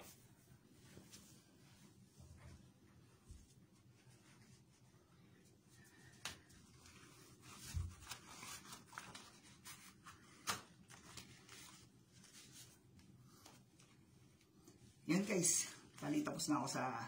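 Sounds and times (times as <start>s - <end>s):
rubber gloves rustling: 0.0s - 16.0s.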